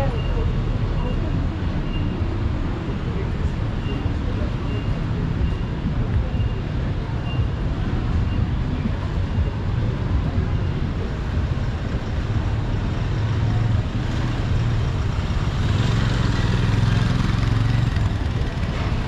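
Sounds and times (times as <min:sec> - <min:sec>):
vehicle engines running: 0:00.0 - 0:19.0.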